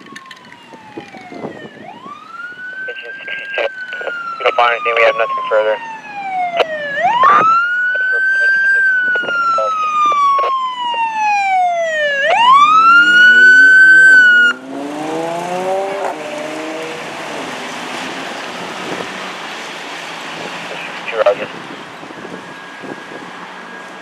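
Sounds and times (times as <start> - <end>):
fire engine siren wailing: 0.0 - 24.0
road noise: 0.0 - 24.0.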